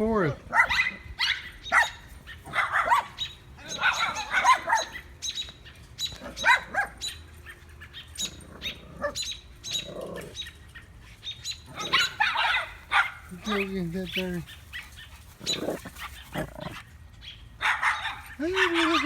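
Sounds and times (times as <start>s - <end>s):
puppy yapping: 0.5s - 5.2s, 6.1s - 19.0s
small birds chirping sharply: 1.4s - 17.5s.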